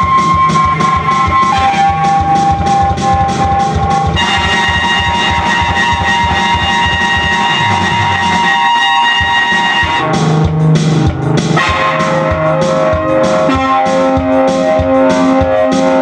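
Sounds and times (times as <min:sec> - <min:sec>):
rock music on electronic keyboard: 0:00.0 - 0:16.0.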